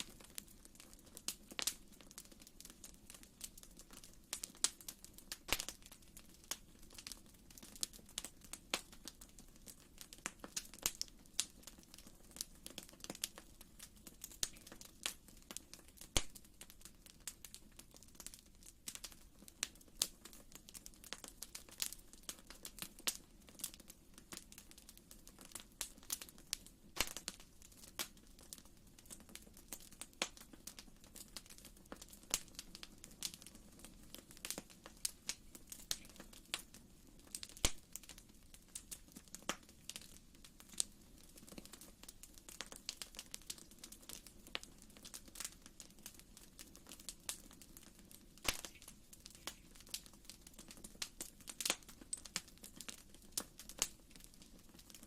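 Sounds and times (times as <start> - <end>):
soft steady hiss: 0.0 - 55.0
wood fire crackling: 0.0 - 55.0.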